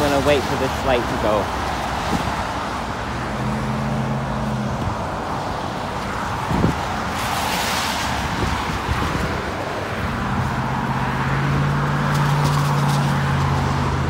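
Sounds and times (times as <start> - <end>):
car passing with tyre noise: 0.0 - 14.0
traffic engine hum: 0.0 - 14.0.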